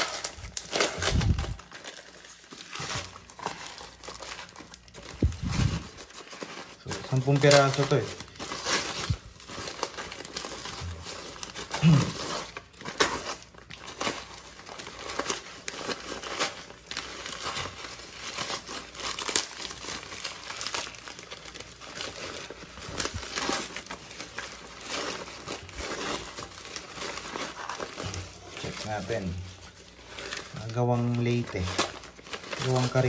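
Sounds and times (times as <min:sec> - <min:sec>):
paper and plastic crumpling: 0:00.0 - 0:33.0.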